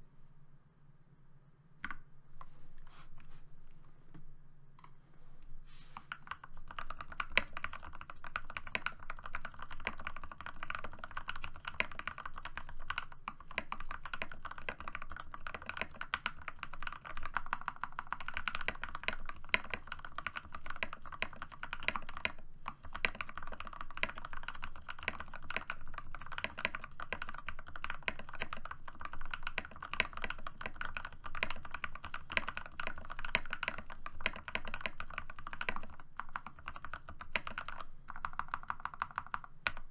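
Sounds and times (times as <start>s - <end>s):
fast typing on mechanical keyboard: 6.1s - 39.9s.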